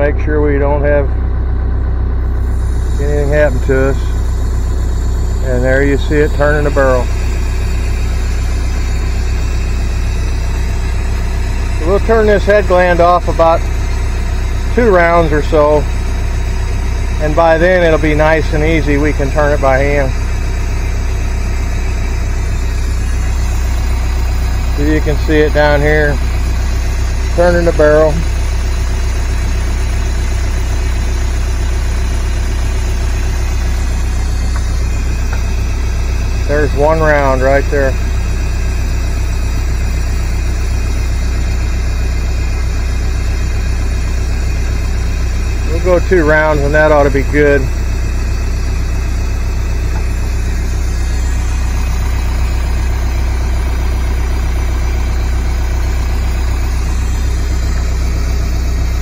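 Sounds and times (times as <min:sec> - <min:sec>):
skid loader engine running: 0:00.0 - 0:59.0.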